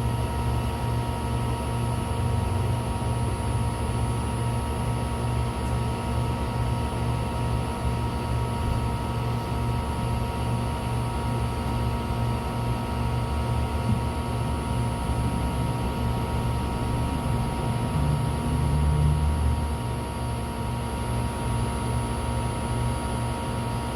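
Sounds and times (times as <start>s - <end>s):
electric drive whine: 0.0s - 23.9s.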